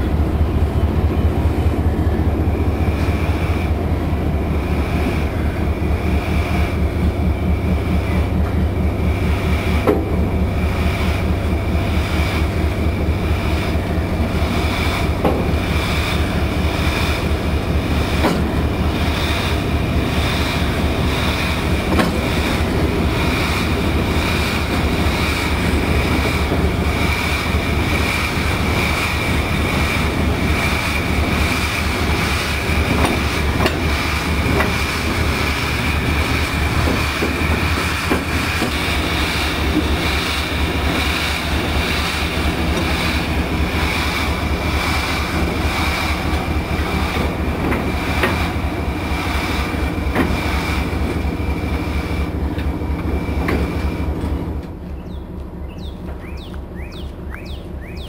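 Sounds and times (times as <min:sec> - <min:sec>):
steam locomotive wheels rumbling: 0:00.0 - 0:58.0.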